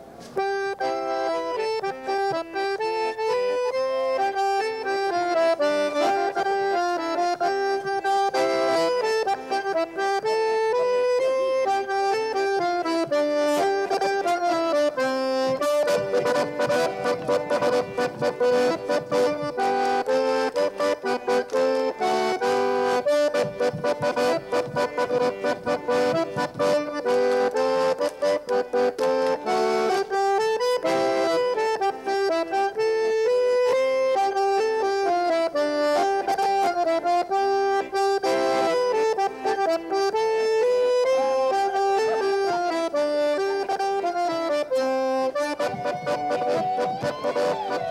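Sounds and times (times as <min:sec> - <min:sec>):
accordion dance tune: 0:00.0 - 0:47.9.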